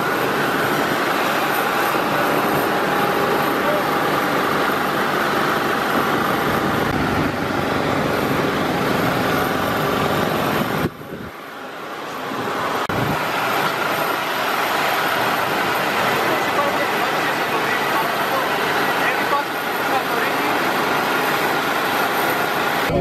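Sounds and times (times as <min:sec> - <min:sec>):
airport machinery hum: 0:00.0 - 0:23.0
faint steady whine: 0:00.0 - 0:23.0.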